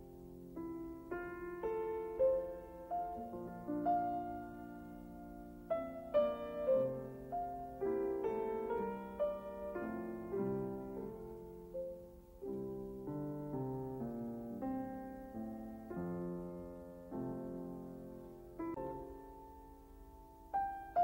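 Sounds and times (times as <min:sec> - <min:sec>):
piano chords and notes: 0:00.0 - 0:21.0.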